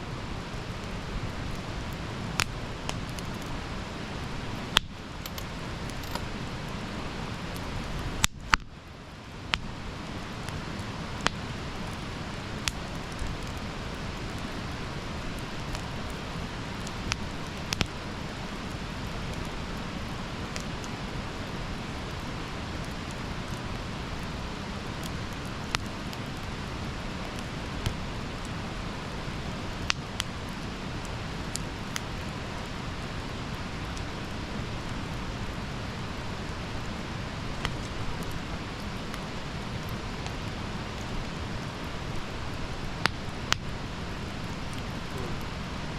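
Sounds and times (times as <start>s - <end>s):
campfire hissing: 0.0s - 45.9s
fire crackles and pops: 0.0s - 45.9s.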